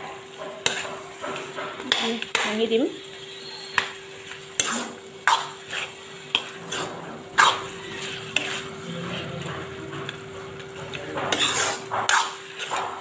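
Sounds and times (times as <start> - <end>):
light sizzle: 0.0 - 13.0
spatula scraping a pan: 0.1 - 13.0.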